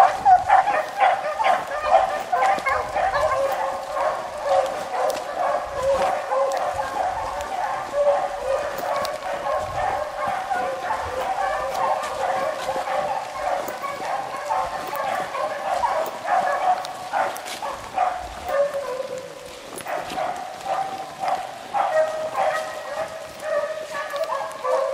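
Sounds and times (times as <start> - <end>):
hounds baying: 0.0 - 24.9.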